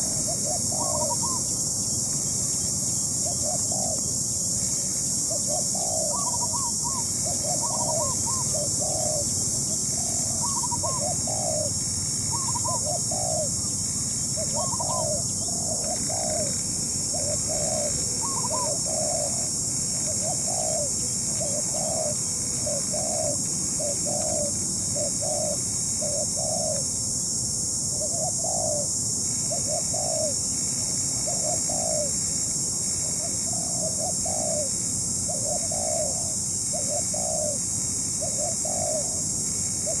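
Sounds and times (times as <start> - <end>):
dove cooing: 0.0 - 26.9, 27.9 - 28.9, 29.5 - 30.4, 31.2 - 32.2, 33.0 - 40.0
steady high hiss: 0.0 - 40.0.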